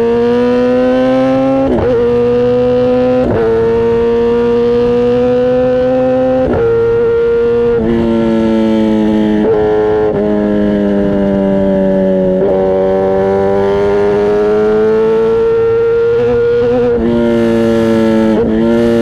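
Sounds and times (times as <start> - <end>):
motorcycle engine and exhaust: 0.0 - 19.0.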